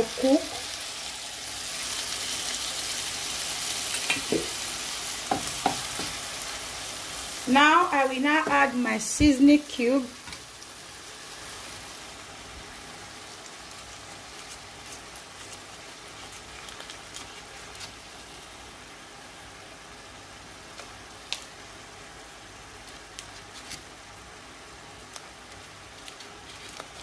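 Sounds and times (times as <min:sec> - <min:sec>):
pot cooking on stove hissing: 0:00.0 - 0:27.0.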